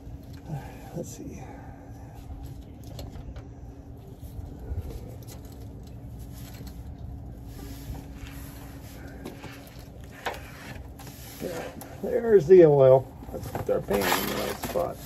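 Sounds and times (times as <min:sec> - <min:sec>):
low steady rumble: 0:00.0 - 0:15.0
scratching and clicking handling noises: 0:02.2 - 0:15.0.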